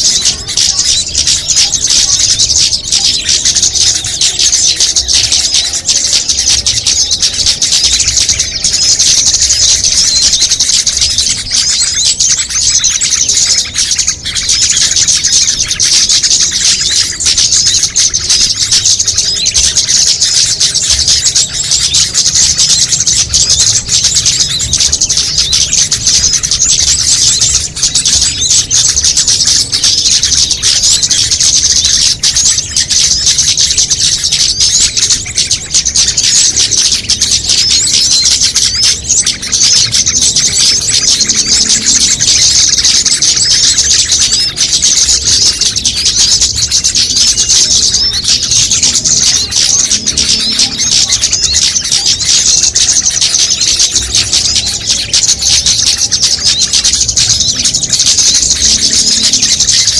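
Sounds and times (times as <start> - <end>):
songbirds chirping and twittering: 0.0 - 59.9.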